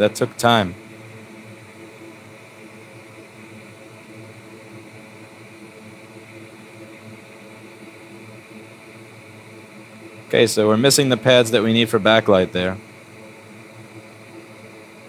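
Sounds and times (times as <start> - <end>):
blower hiss: 0.0 - 15.0.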